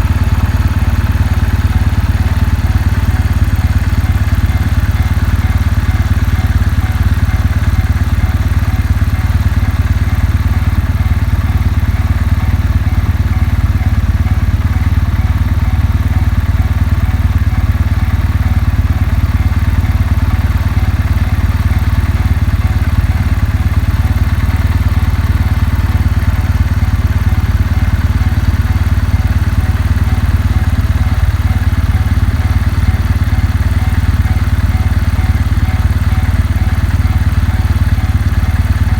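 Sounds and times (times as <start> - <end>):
motorcycle engine idling: 0.0 - 38.9
railway crossing alarm ringing: 0.0 - 38.9.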